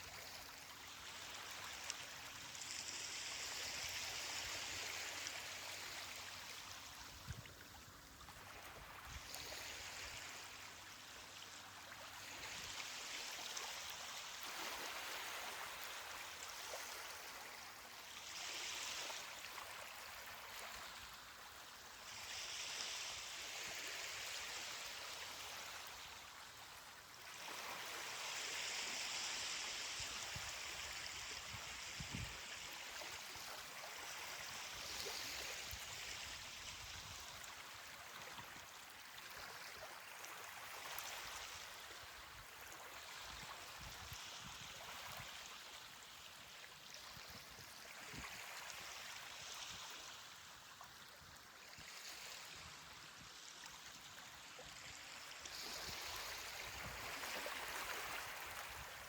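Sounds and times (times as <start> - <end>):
ocean waves on a beach: 0.0 - 59.0.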